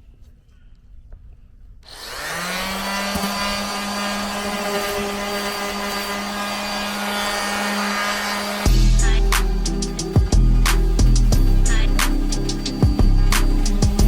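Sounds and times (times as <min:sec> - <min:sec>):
electric sander running: 0:01.9 - 0:14.0.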